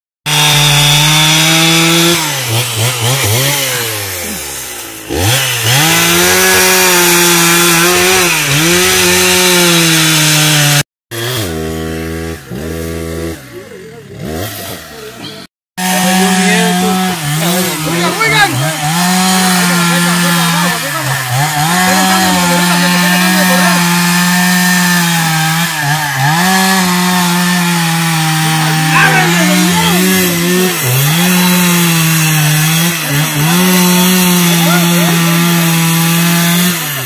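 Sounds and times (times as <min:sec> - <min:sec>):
chainsaw cutting tree trunk: 0:00.3 - 0:37.0.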